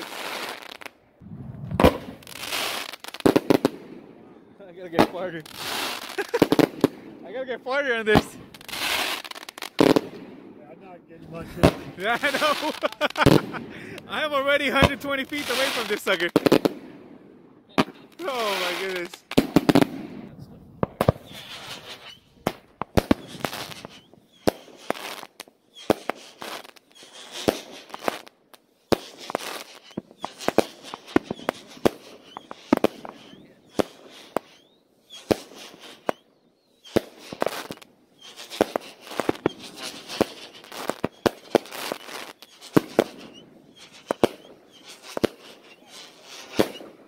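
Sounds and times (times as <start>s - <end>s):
fireworks bangs: 0.0s - 28.3s, 28.9s - 36.2s, 36.8s - 47.0s
fireworks crackling: 0.0s - 36.2s, 36.8s - 47.0s.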